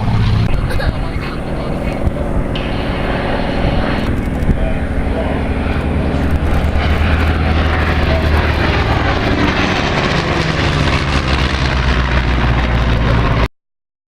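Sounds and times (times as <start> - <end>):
propeller plane engine drone: 0.0 - 13.5.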